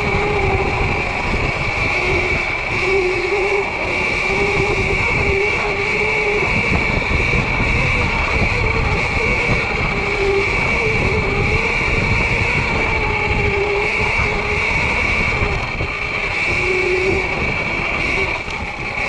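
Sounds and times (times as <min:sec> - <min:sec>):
chain and tyre rumble: 0:00.0 - 0:19.0
electric dirt bike whine: 0:00.0 - 0:19.0
wind on microphone: 0:00.0 - 0:19.0.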